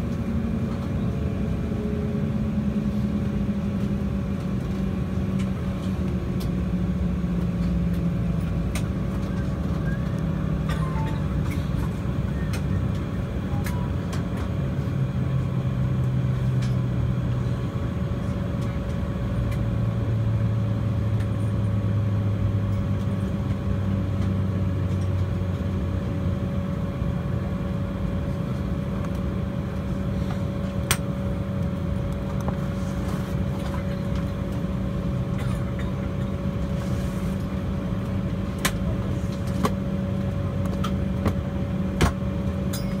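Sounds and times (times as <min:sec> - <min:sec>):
airliner cabin hum: 0:00.0 - 0:43.0.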